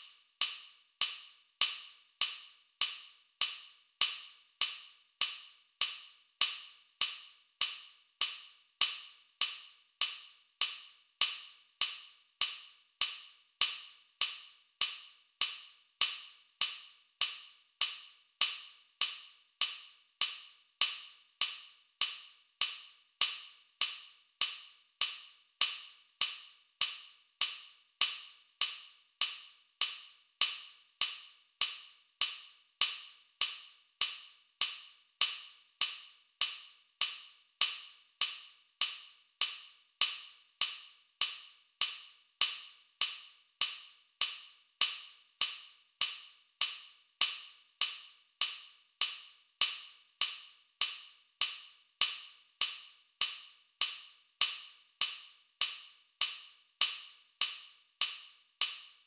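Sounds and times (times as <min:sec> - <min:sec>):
metronome clicks: 0:00.4 - 0:59.0.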